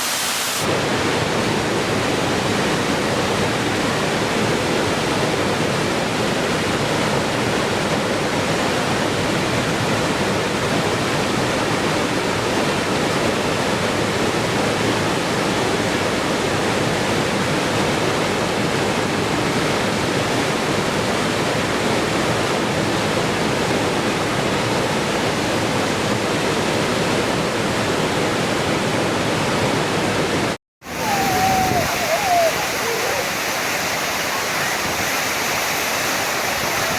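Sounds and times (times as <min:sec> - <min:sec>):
rushing water: 0:00.0 - 0:36.9.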